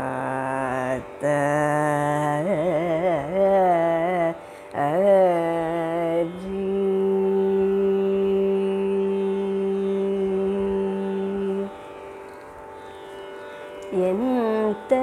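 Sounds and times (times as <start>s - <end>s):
woman singing with ornaments: 0.0s - 12.4s, 13.8s - 15.0s.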